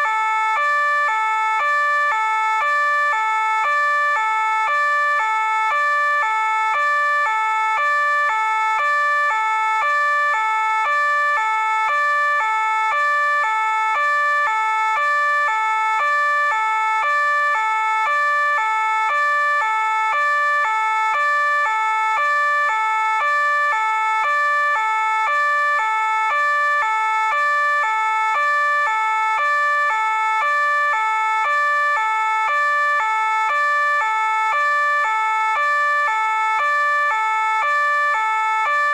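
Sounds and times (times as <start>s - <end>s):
police two-tone siren: 0.0s - 38.9s.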